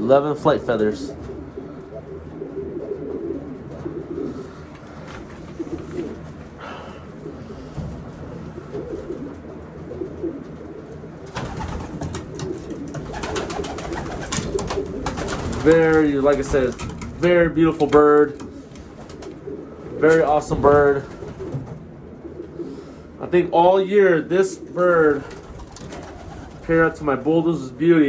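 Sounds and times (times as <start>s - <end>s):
pigeons cooing: 0.7s - 27.2s.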